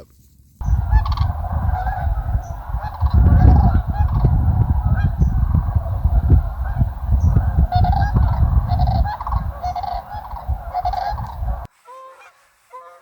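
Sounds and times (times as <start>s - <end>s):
geese honking: 0.6s - 11.7s
wind rumble on microphone: 0.6s - 11.7s.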